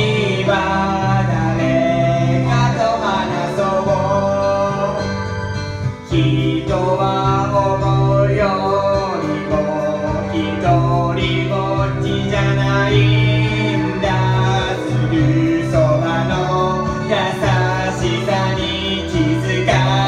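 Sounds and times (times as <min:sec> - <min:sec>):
karaoke backing track: 0:00.0 - 0:20.0
person singing: 0:00.0 - 0:20.0.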